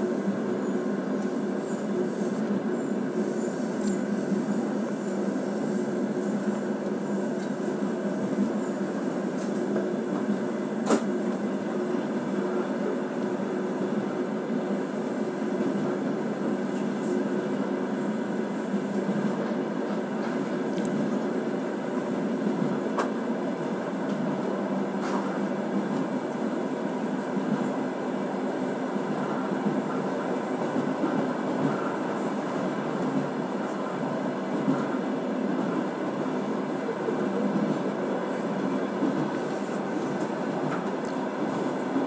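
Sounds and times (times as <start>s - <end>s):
train running hum: 0.0s - 42.0s.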